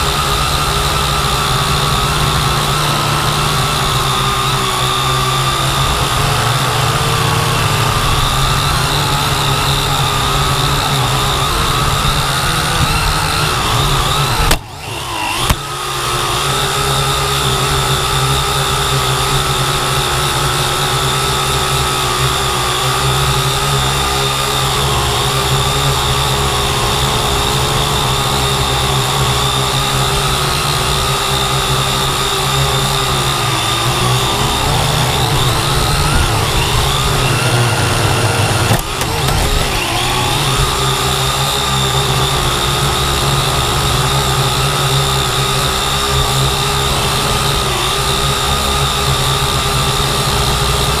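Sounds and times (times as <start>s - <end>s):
drone propellers whining: 0.0s - 51.0s.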